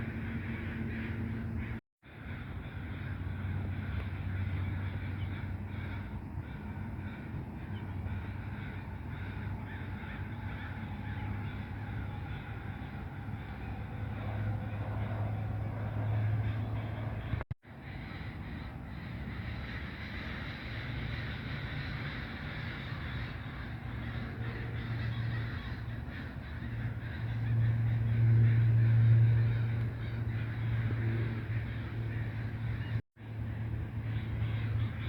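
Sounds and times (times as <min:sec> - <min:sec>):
low lakeside rumble: 0:00.0 - 0:35.0
crows cawing: 0:00.1 - 0:35.0.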